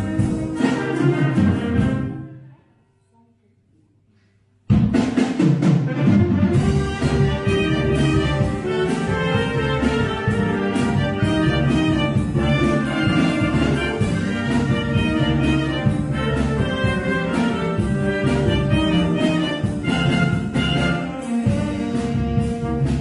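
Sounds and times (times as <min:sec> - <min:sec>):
wind band playing: 0:00.0 - 0:02.4, 0:05.7 - 0:23.0.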